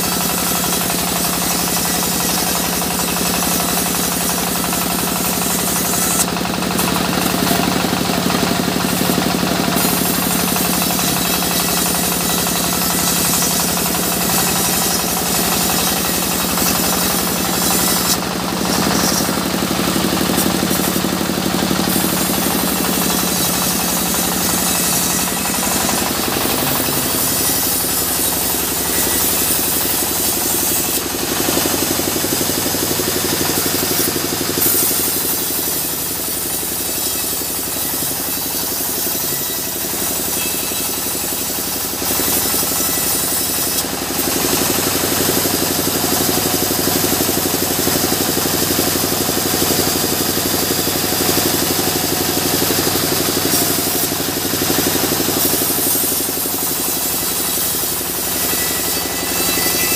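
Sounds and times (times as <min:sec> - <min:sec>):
saw blade cutting wood hiss: 0:00.0 - 0:59.9
sawmill mechanical drone: 0:00.0 - 0:59.9.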